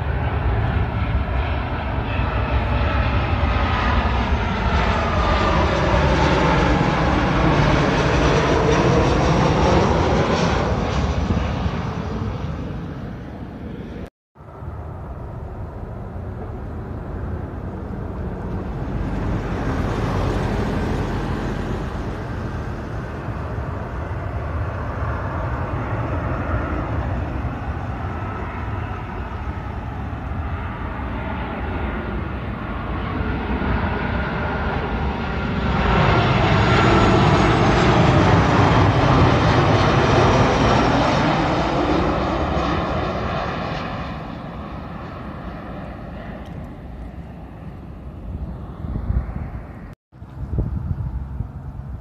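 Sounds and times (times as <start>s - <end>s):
jet engine roar with whine: 0.0s - 52.0s.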